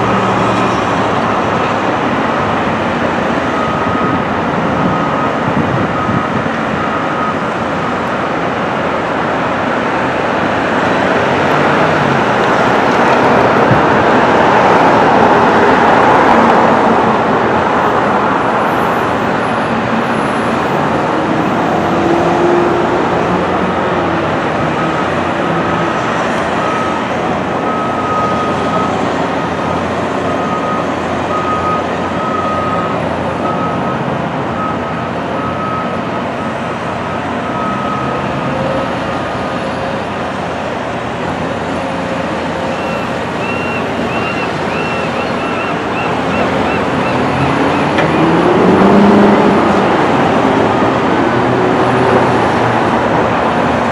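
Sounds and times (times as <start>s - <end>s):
excavator diesel engines rumbling: 0.0s - 53.9s.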